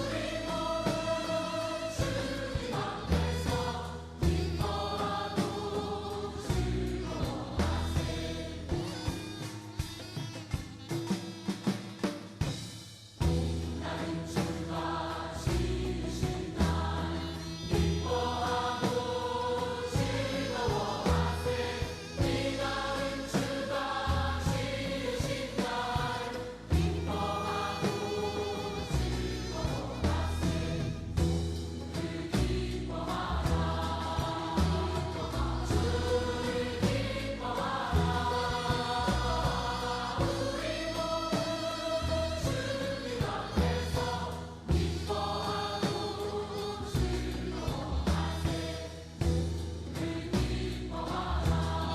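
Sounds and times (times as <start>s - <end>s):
group singing: 0.0s - 9.6s, 13.2s - 51.9s
sharp drum strokes: 0.0s - 51.9s.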